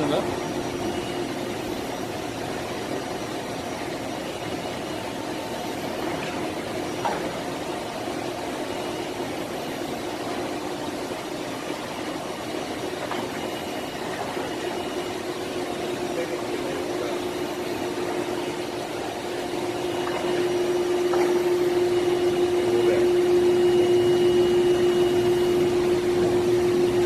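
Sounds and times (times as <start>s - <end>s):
machine mechanical hum: 0.0s - 27.0s.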